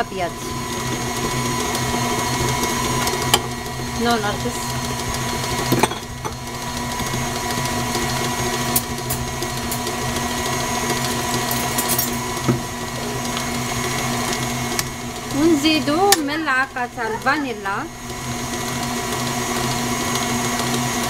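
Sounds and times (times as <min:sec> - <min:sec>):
stand mixer motor running: 0:00.0 - 0:21.0.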